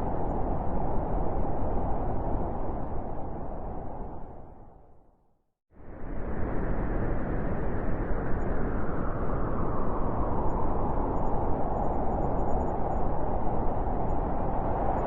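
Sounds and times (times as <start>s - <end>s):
snowstorm wind blowing hard: 0.0s - 5.0s, 5.8s - 15.0s.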